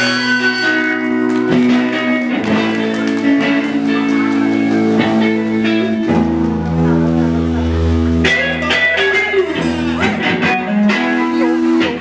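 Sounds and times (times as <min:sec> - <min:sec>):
bass guitar: 0:00.0 - 0:12.0
rock guitar chords: 0:00.0 - 0:12.0.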